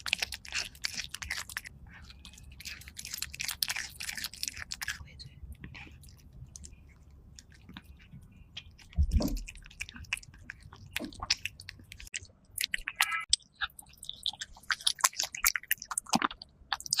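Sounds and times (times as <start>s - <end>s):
cat chewing: 0.0s - 17.0s.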